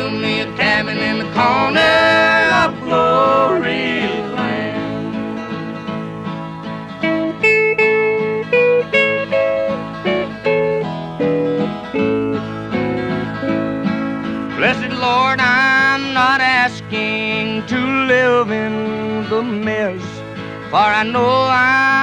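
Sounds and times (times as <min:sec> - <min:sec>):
backing guitar strumming: 0:00.0 - 0:22.0
lead guitar plucking melody: 0:00.0 - 0:22.0.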